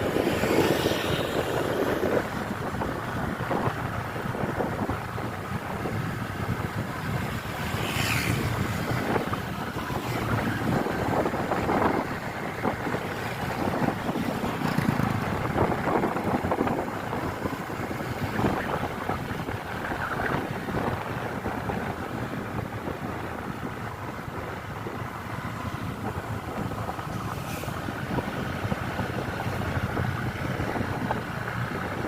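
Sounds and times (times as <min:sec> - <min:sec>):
vehicle noise: 0:00.0 - 0:32.0
wind buffeting microphone: 0:00.0 - 0:32.0.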